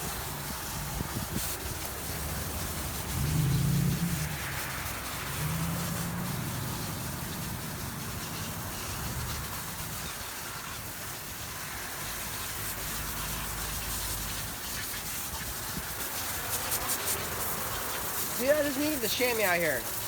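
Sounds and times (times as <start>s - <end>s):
garden hose spraying water: 0.0s - 20.0s.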